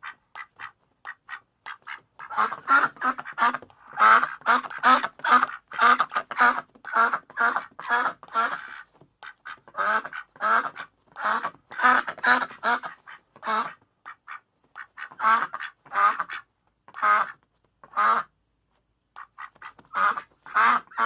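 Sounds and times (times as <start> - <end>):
duck quacking: 0.0 - 18.4, 19.2 - 21.0.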